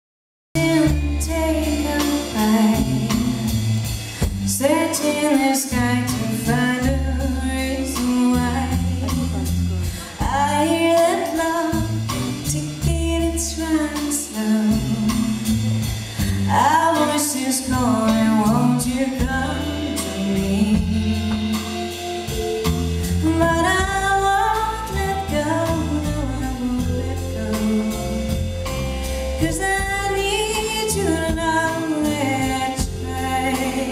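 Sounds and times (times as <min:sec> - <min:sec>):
woman singing: 0:00.6 - 0:22.4, 0:23.1 - 0:33.9
live band playing: 0:00.6 - 0:33.9.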